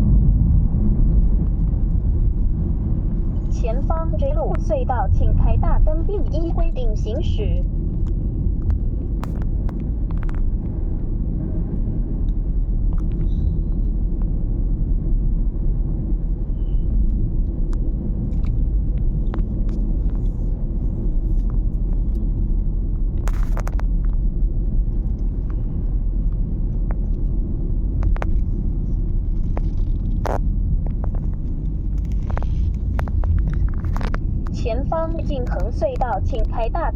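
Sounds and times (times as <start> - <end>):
road and engine rumble in car: 0.0 - 36.9.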